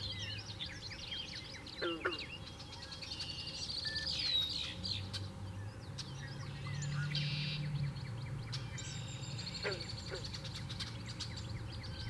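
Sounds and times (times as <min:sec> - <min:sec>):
marsh birds calling: 0:00.0 - 0:12.0.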